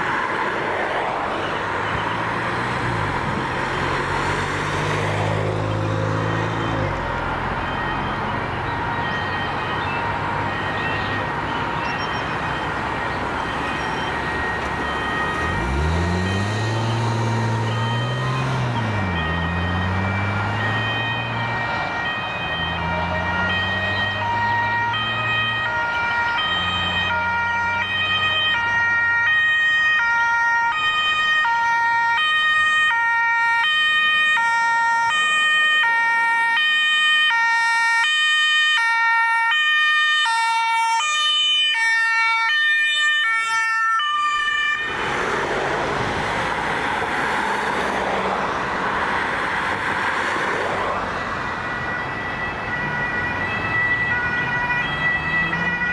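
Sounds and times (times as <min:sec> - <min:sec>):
traffic rushing past: 0:00.0 - 0:55.9
two-tone ambulance siren: 0:00.0 - 0:55.9.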